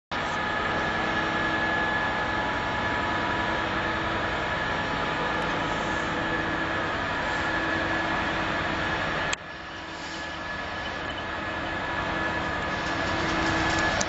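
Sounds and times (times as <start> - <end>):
diesel locomotive engine drone: 0.1 - 14.0
freight wagons rumbling past: 0.1 - 14.0.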